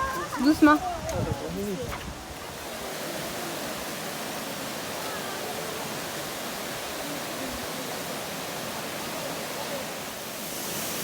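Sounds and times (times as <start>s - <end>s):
river water rushing: 1.6s - 11.0s.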